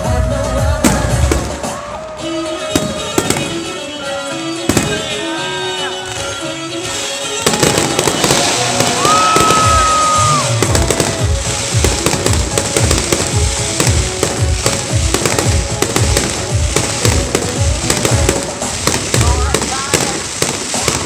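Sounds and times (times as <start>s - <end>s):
fireworks bangs and crackling: 0.0s - 21.0s
music playing: 0.0s - 21.0s.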